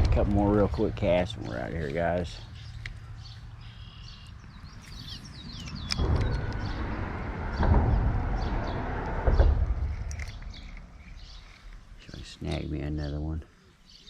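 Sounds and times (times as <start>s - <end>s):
low rumbling noise: 0.0s - 12.4s
birds chirping: 0.0s - 14.0s.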